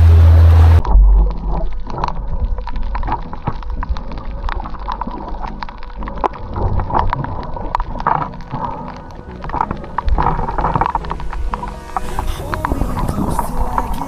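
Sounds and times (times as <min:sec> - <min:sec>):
snapping shrimp crackle: 0:01.2 - 0:14.0.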